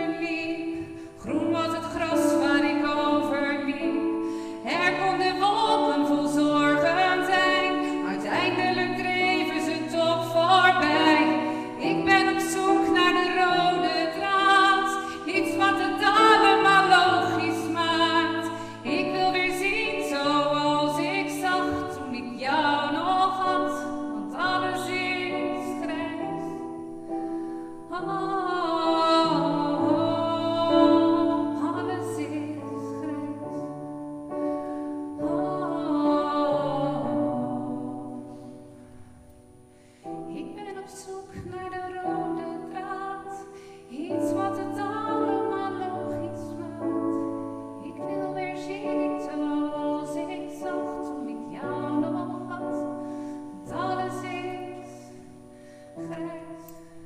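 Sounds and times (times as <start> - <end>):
woman singing slow song: 0.0 - 27.0, 27.8 - 38.6, 40.2 - 57.0.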